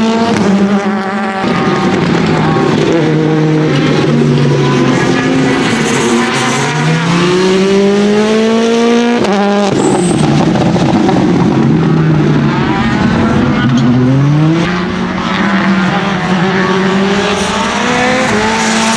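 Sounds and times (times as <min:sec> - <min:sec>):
rally car engine revving: 0:00.0 - 0:18.9.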